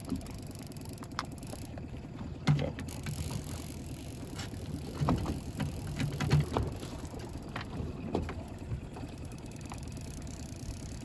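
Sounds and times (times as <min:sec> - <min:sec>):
fishing gear knocking and clattering: 0:00.0 - 0:11.0
outboard motor running: 0:00.0 - 0:11.0.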